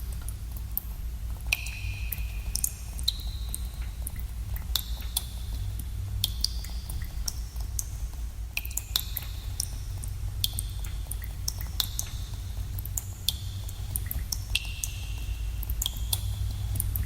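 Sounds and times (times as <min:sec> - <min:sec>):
steady low rumble: 0:00.0 - 0:17.0
water drops plinking into pools: 0:01.4 - 0:07.9, 0:08.6 - 0:17.0.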